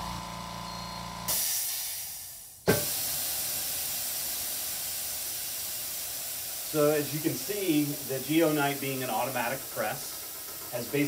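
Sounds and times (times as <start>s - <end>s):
pneumatic air hissing: 1.3s - 11.0s.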